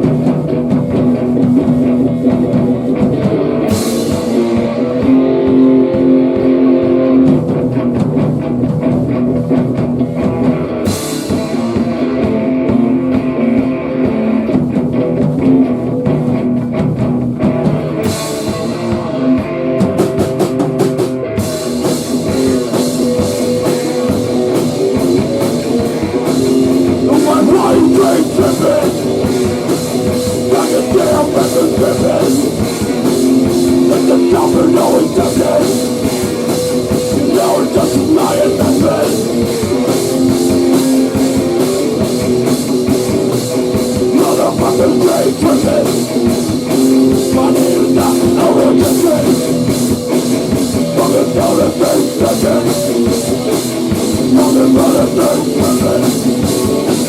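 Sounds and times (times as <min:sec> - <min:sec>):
drums with steady cymbals: 0:00.0 - 0:57.0
guitar riff: 0:00.0 - 0:57.0
rock band playing instrumental: 0:00.0 - 0:57.0.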